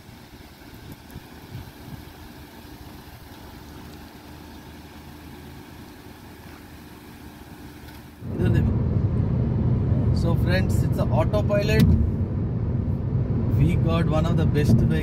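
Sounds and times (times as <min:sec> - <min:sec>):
car engine hum: 0:00.0 - 0:15.0.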